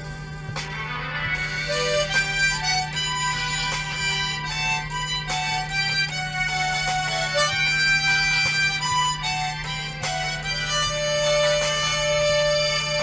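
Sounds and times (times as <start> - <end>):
harmonica slow melody: 0.0 - 13.0.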